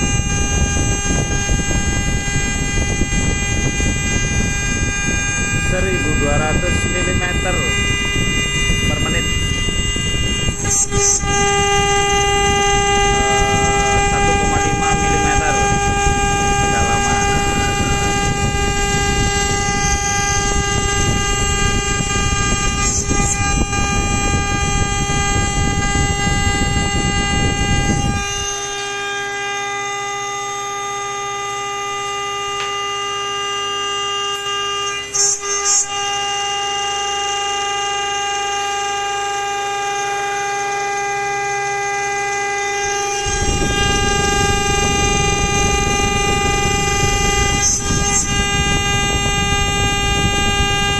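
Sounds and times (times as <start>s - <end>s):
end mill cutting metal: 0.0s - 50.9s
router spindle whine: 0.0s - 50.9s.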